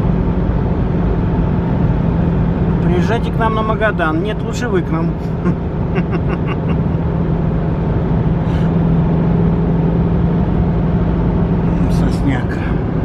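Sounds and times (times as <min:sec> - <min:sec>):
car engine hum: 0:00.0 - 0:13.0
tyre road noise: 0:00.0 - 0:13.0.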